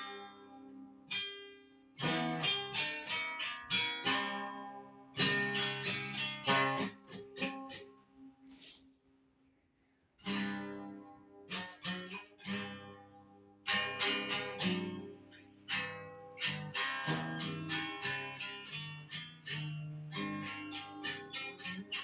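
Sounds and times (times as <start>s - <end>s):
plucked string instrument: 0.0s - 8.9s, 10.2s - 22.0s.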